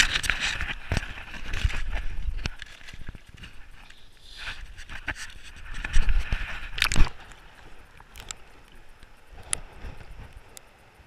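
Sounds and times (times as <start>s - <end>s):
water splashing and sloshing: 0.0s - 10.4s
muffled underwater ticks: 0.0s - 11.0s.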